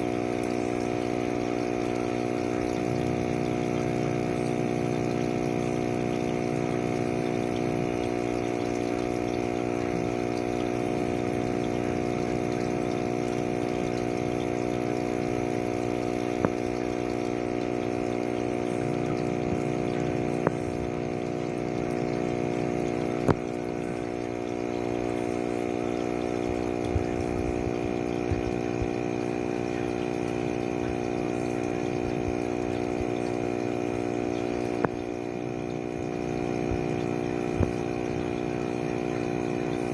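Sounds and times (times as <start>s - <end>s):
small motor humming: 0.0s - 39.9s.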